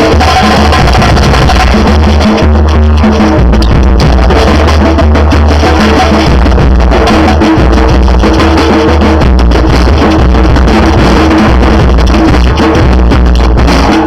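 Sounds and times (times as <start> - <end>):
deep bass drums: 0.0 - 14.0
hand percussion: 0.0 - 14.0
samba drum group: 0.0 - 14.0.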